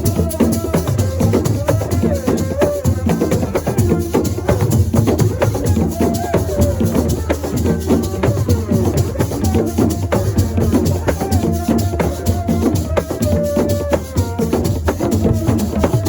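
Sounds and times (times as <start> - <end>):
hand drumming: 0.0 - 16.0
shaker rattles: 0.0 - 16.0.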